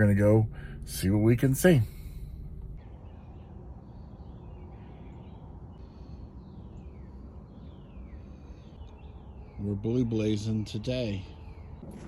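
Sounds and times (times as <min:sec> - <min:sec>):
low background rumble: 0:00.0 - 0:09.7.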